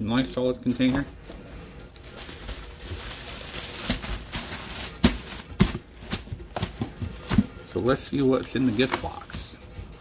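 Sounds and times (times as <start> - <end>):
plastic and cardboard rustling: 0.0 - 10.0.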